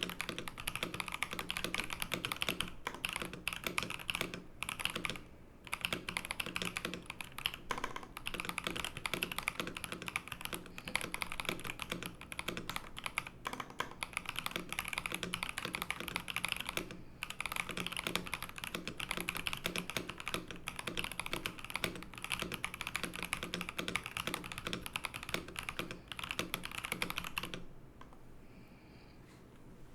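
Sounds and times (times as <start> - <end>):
mechanical keyboard typing: 0.0 - 27.7.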